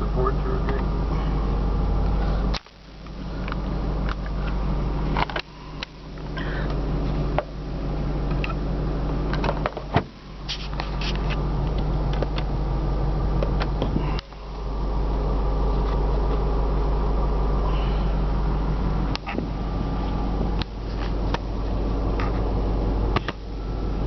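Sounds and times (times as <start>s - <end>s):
car engine hum inside cabin: 0.0s - 24.0s.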